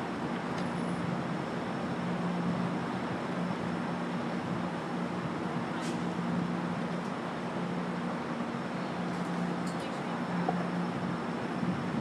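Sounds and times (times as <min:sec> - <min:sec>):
train engine humming: 0:00.0 - 0:12.0.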